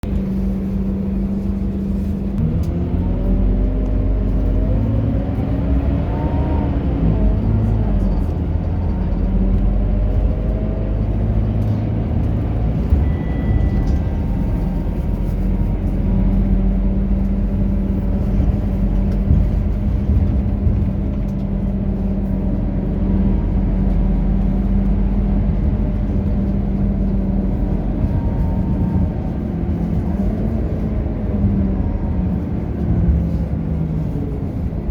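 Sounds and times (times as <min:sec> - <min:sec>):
bus diesel engine pulling away: 0:00.0 - 0:34.9.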